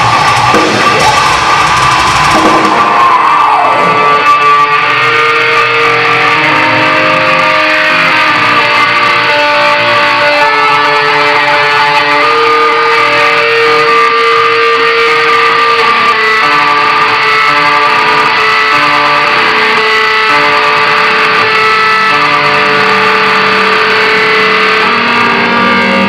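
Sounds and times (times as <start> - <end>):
electric guitars long melodic notes: 0.0 - 26.0
metal band playing: 0.0 - 26.0.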